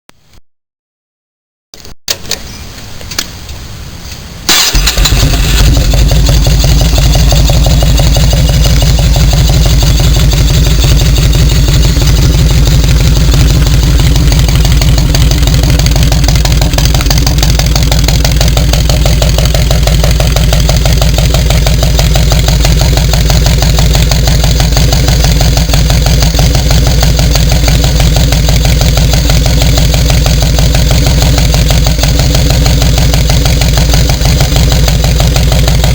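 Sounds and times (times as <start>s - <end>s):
engine cranking: 4.5s - 35.9s
motorcycle engine idling: 4.6s - 35.9s.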